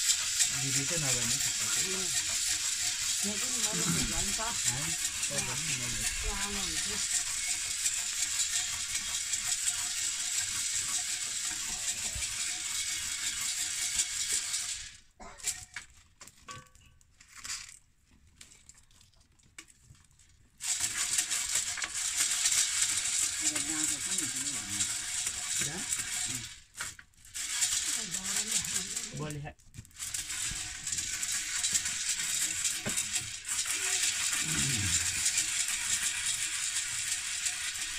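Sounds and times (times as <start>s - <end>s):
corn popping in covered pot: 0.0s - 18.8s, 20.4s - 37.9s.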